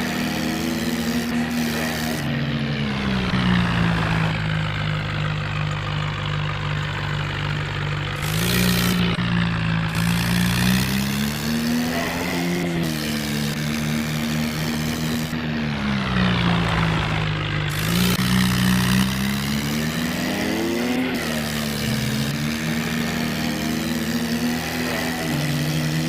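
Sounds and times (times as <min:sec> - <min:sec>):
toy tractor engine drone: 0:00.0 - 0:26.0.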